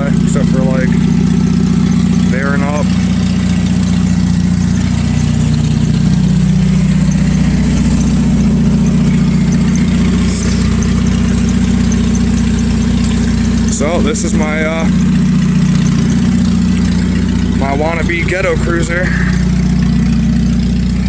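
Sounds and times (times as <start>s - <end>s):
pickup engine idling: 0.0s - 21.0s.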